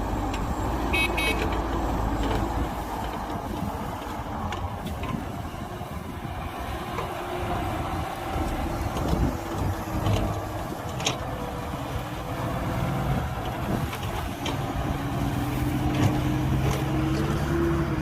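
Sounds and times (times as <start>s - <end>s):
diesel earthmoving machinery running: 0.0s - 18.0s.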